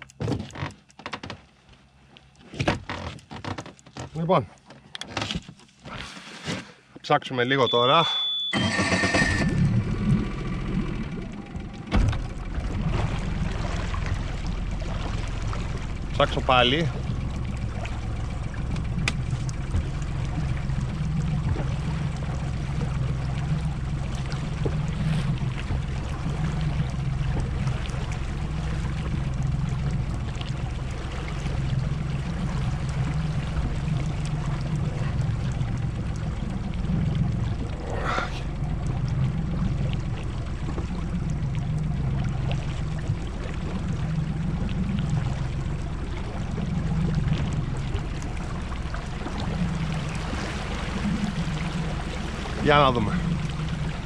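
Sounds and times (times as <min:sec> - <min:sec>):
water running along hull: 0:00.0 - 0:54.0
boat engine running: 0:07.4 - 0:54.0.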